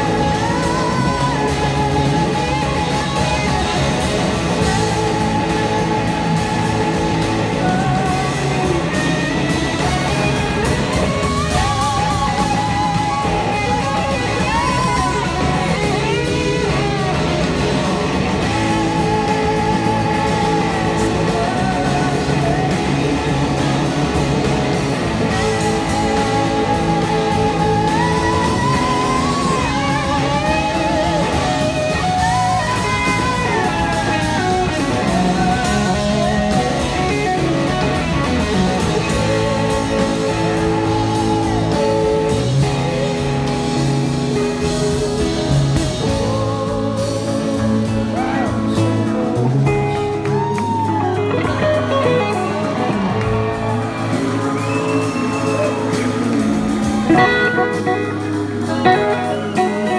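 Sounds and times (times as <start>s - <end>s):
woman singing: 0.0s - 49.4s
blues-rock band playing: 0.0s - 59.9s
drums: 0.0s - 59.9s
electric guitar: 0.0s - 59.9s.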